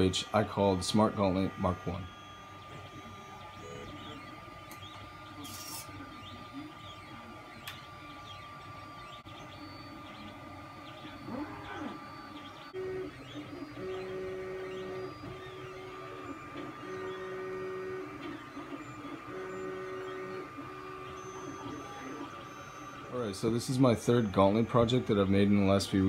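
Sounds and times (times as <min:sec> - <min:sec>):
steady high hum: 0:00.0 - 0:26.0
stepper motor tones: 0:00.0 - 0:26.0.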